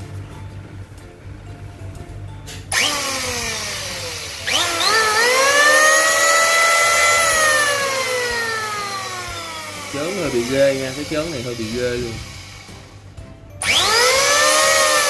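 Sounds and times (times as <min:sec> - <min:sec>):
electric planer whining: 0:02.7 - 0:15.0.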